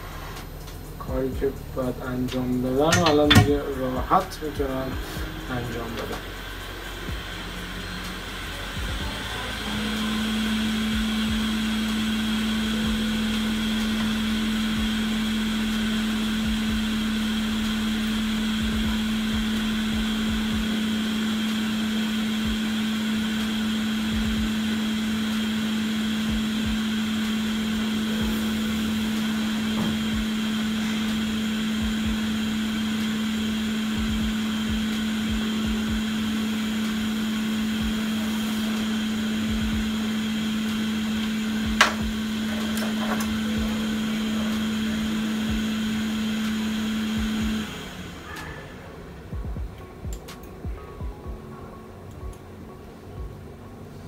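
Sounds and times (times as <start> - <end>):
electric blower motor humming: 0.0 - 51.5.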